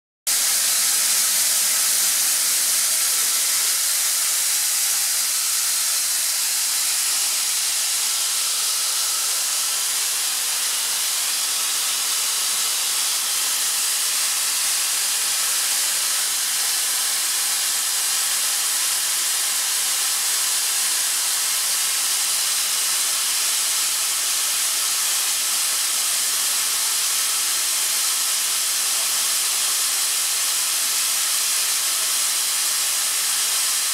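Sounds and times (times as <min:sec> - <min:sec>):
air compressor hissing: 0:00.3 - 0:33.9.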